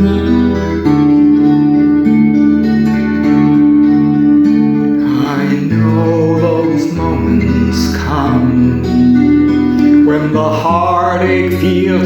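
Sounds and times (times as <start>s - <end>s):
guitar chords: 0.0s - 12.0s
wavering lead guitar line: 0.0s - 12.0s.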